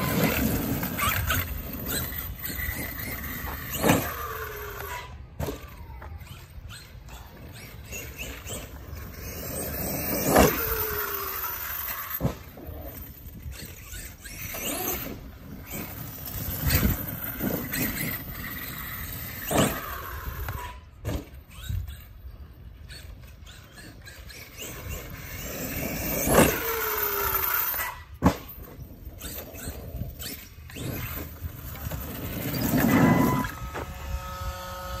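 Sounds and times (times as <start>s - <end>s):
electric motor whining: 0.0s - 21.0s, 22.9s - 28.2s, 29.2s - 35.0s
tires tearing at ground: 0.0s - 22.1s, 22.7s - 35.0s.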